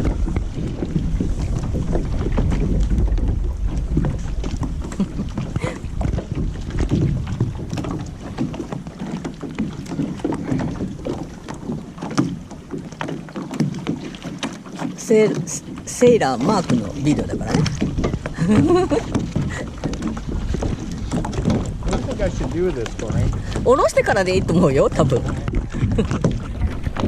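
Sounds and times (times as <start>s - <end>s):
wind buffeting microphone: 0.0s - 14.2s, 15.0s - 27.0s
knocks and rustles of sail rigging: 0.0s - 27.0s.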